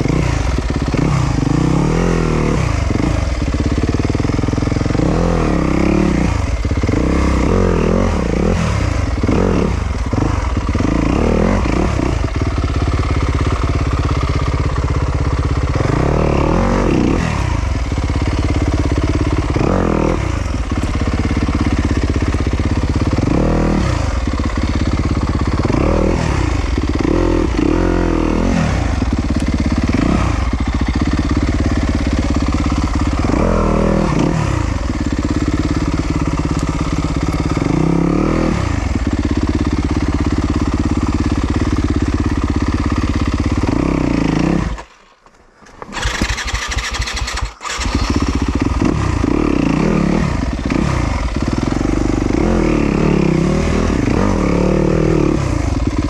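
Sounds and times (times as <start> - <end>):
dirt bike engine revving: 0.0 - 45.0, 45.7 - 56.0.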